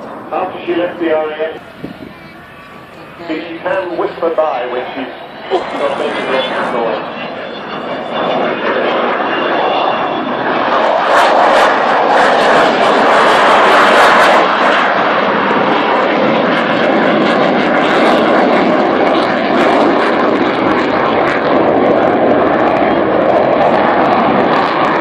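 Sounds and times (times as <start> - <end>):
jet aircraft rushing: 0.0 - 25.0.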